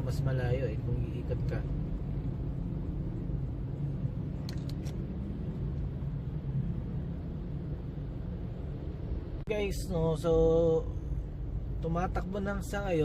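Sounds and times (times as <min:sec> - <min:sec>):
car cabin low rumble: 0:00.0 - 0:13.0.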